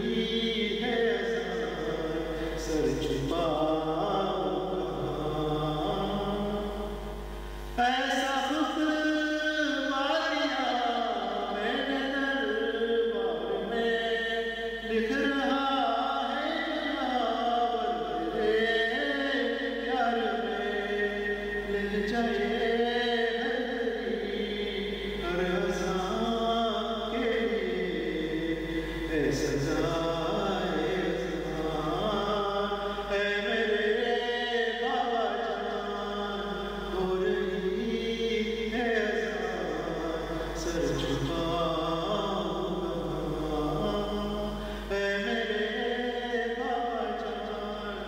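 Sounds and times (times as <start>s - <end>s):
man chanting melodically: 0.0s - 48.0s.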